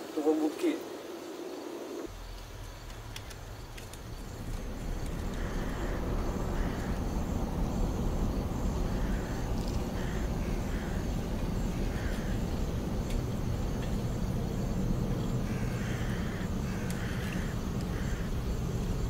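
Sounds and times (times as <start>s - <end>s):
faint insect chirps: 0.0s - 19.0s
car tyre and wind rumble: 1.4s - 19.0s.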